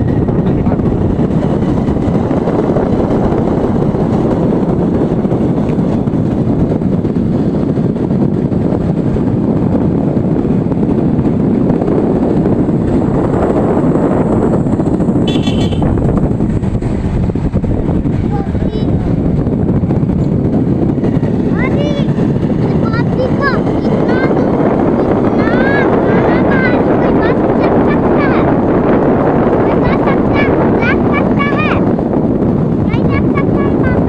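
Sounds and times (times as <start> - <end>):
vehicle rumbling: 0.0 - 34.0
wind noise on microphone: 0.0 - 34.0.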